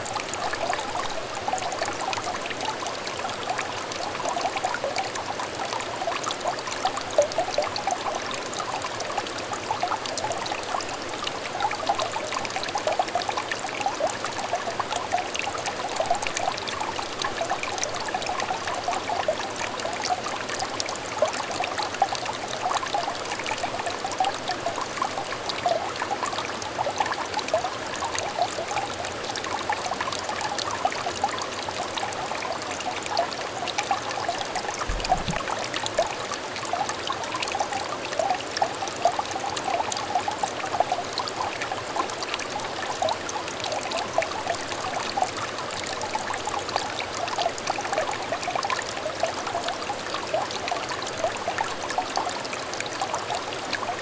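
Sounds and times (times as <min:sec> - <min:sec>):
stream trickling and burbling: 0:00.0 - 0:54.0.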